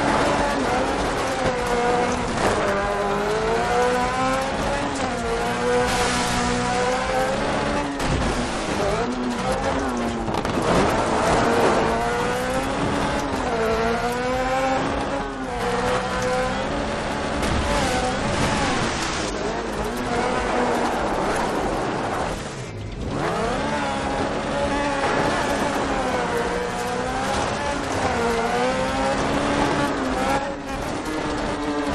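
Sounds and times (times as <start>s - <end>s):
off-road buggy engine revving: 0.0s - 31.9s.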